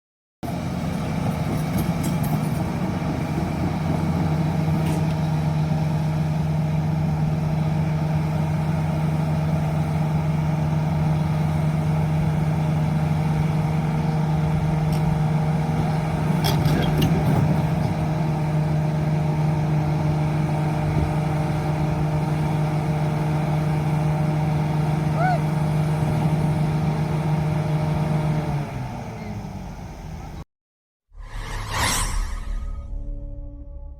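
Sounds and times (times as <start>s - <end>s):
excavator diesel engine running: 0.4s - 30.4s.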